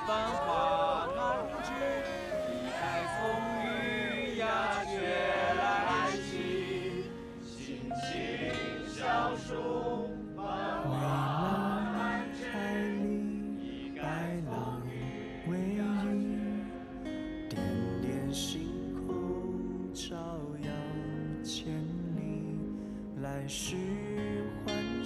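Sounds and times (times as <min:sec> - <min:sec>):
person singing: 0:00.0 - 0:25.0
sustained backing chords: 0:00.0 - 0:25.0.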